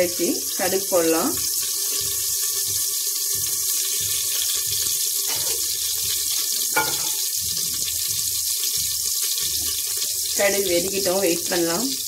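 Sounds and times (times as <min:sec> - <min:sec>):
seeds sizzling in hot oil: 0:00.0 - 0:12.0.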